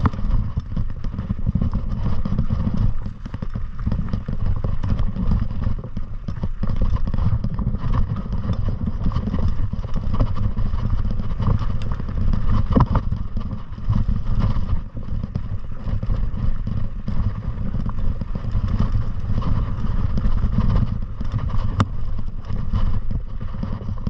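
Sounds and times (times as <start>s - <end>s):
bike clatter and rattling: 0.0s - 24.0s
wind rumble on microphone: 0.0s - 24.0s.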